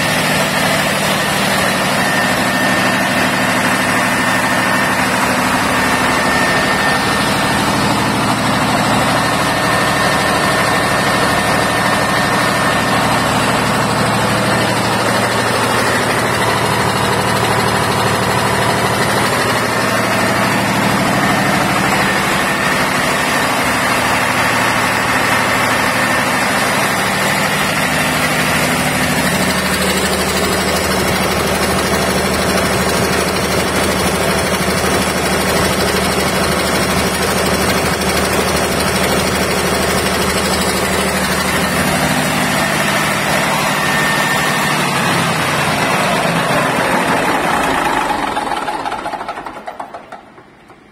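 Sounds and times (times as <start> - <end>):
diesel generator running: 0.0 - 50.9.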